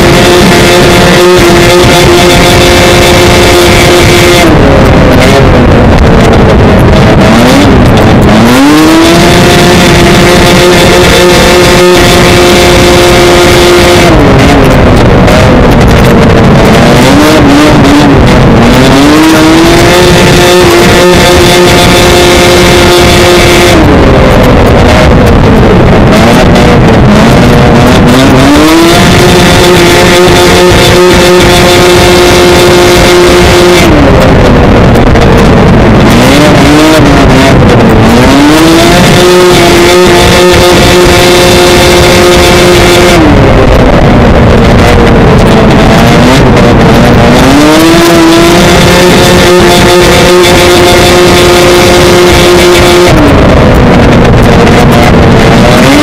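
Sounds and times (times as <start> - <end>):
rushing wind: 0.0 - 56.0
snowmobile engine screaming: 0.0 - 56.0.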